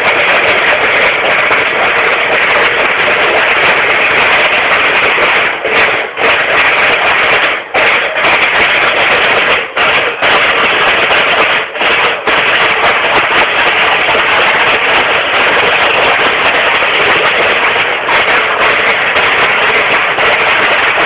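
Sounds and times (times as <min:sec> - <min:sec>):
marching snare drums: 0:00.0 - 0:21.0.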